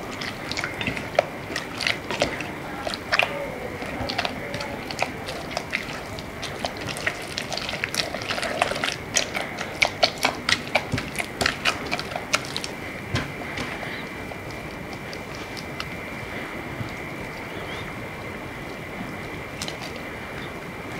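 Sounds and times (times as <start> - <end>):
spatula slapping sticky dough: 0.0 - 17.6.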